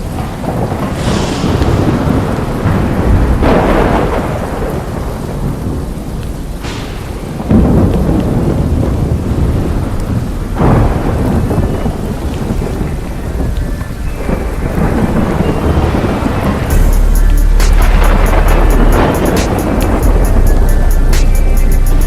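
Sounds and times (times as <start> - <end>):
heavy rain: 0.0 - 22.0
rumbling thunder: 0.0 - 22.0.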